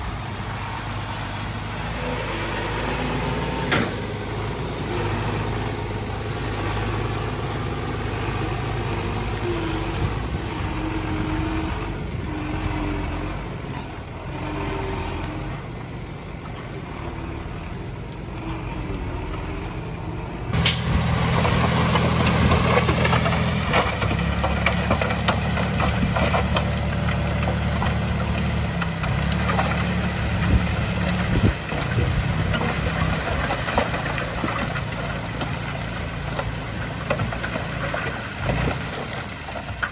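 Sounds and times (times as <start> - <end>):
diesel construction machinery: 0.0 - 39.9.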